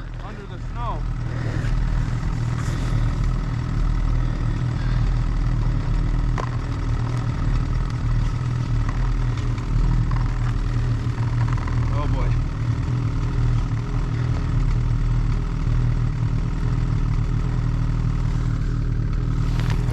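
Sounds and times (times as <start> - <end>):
snowmobile engine running: 0.0 - 19.9.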